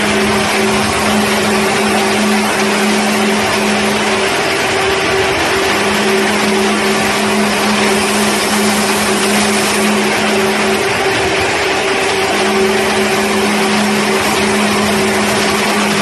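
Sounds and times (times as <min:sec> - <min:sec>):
motor whir and hum: 0:00.0 - 0:16.0.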